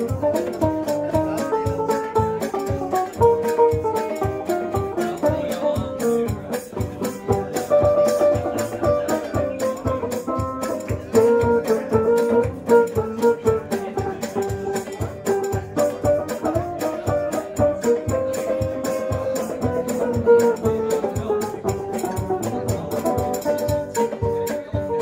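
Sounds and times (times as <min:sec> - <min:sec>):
acoustic guitars strumming: 0:00.0 - 0:25.0.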